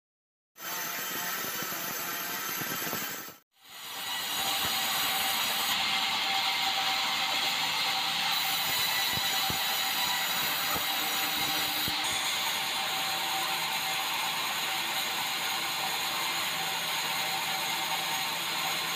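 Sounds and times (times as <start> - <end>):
band saw cutting wood: 0.6 - 18.9.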